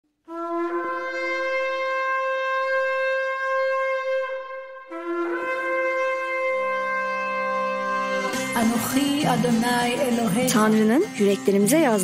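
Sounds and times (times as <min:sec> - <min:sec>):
ram's horn blasts: 0:00.3 - 0:11.2.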